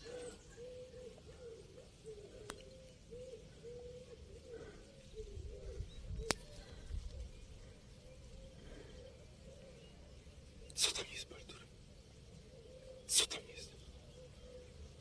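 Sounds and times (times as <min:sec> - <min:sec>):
pigeons cooing: 0:00.0 - 0:11.6, 0:12.3 - 0:15.0.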